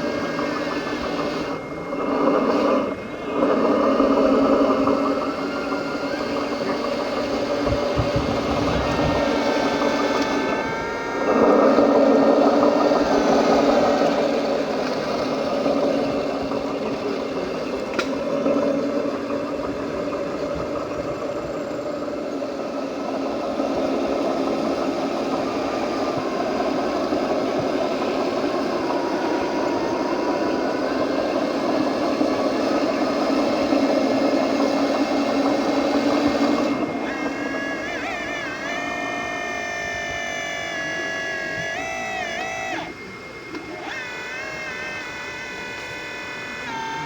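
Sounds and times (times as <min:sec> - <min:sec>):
mechanical whir and hum: 0:00.0 - 0:47.0.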